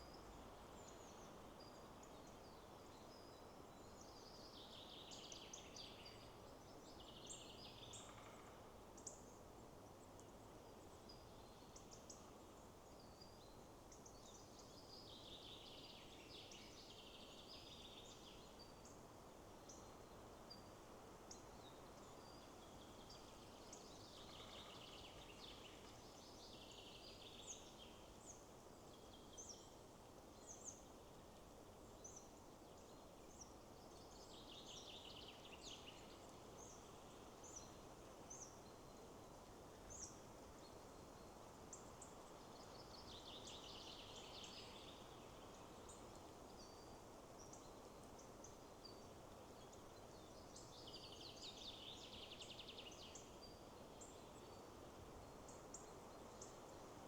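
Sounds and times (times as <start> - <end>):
songbirds chirping: 0.0 - 57.0
wind rushing through trees: 0.0 - 57.0.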